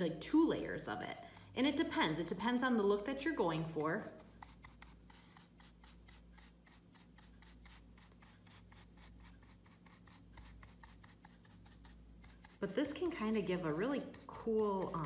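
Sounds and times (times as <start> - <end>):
bristle brush scratching on wood: 0.0 - 15.0.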